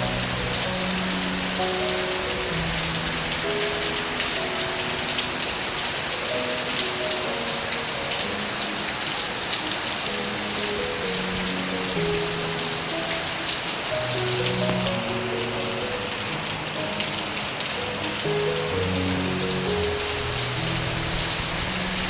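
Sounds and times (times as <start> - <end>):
heavy rain pouring: 0.0 - 22.0
slow soft melody: 0.0 - 22.0.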